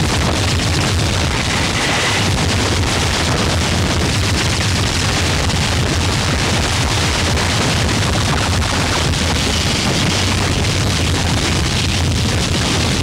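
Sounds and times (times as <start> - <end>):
dense distorted noise: 0.0 - 13.0
heavy low rumble: 0.0 - 13.0.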